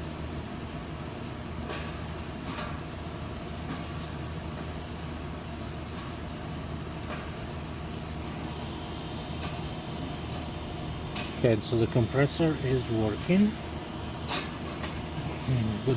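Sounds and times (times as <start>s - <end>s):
refrigerator compressor humming: 0.0s - 15.9s.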